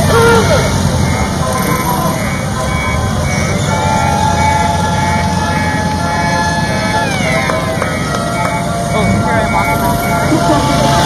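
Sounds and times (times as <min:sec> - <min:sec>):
long steady high tone: 0:00.0 - 0:11.0
small engines rumbling: 0:00.0 - 0:11.0.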